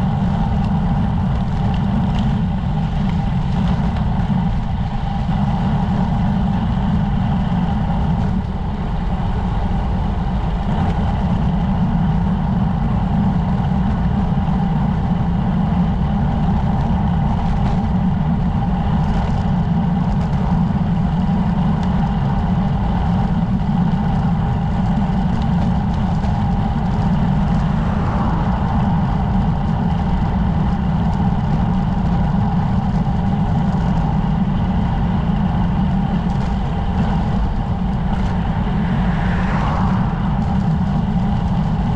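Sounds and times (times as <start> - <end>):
bicycle road rumble: 0.0 - 41.9
wind rush: 0.0 - 41.9.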